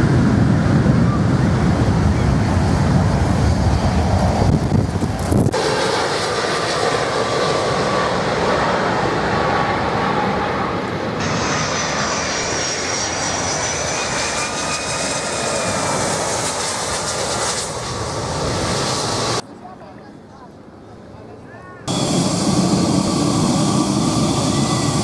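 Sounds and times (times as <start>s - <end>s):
high jet whine: 0.0s - 19.4s, 21.9s - 25.0s
jet engines rushing: 0.0s - 19.4s, 21.9s - 25.0s.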